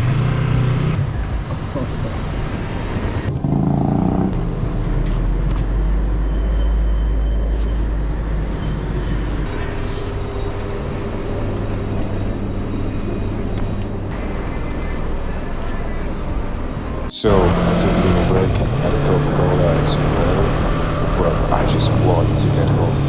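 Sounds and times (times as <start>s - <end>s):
motorcycle engine droning: 0.0s - 23.0s
road traffic: 0.0s - 23.0s.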